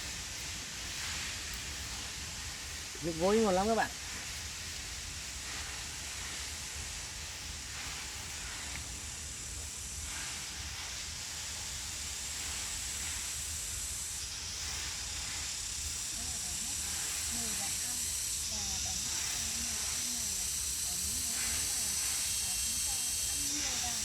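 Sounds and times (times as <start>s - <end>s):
cicadas buzzing: 0.0s - 24.0s.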